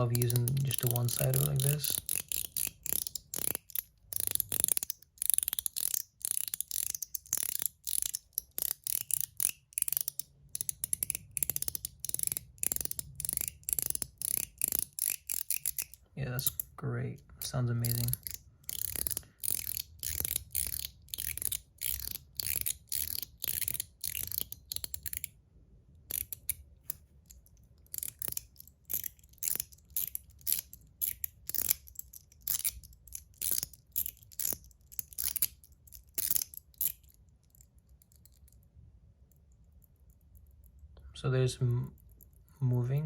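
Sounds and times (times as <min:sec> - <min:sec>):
fidget slider clicking crisply: 0:00.0 - 0:16.7, 0:17.8 - 0:25.3, 0:26.1 - 0:37.6.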